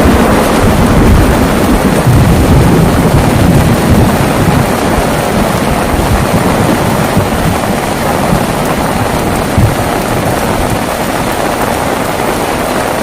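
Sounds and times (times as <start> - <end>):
heavy rain falling: 0.0 - 13.0
low rumble of thunder: 0.0 - 13.0.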